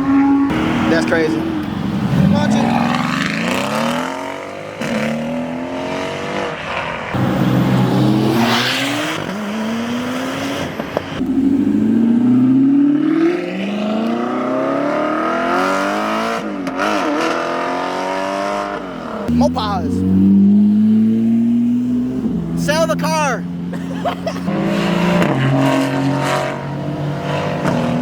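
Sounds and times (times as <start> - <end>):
car engine accelerating through gears: 0.0 - 22.6, 23.4 - 28.0.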